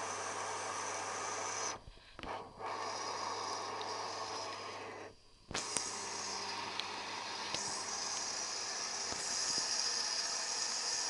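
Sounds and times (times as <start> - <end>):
washing machine hiss and hum: 0.0 - 11.0.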